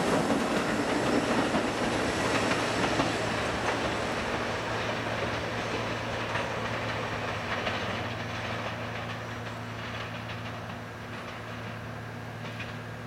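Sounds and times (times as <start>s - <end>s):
subway train rumbling: 0.0s - 13.0s
wheels clicking on rail joints: 0.0s - 13.0s.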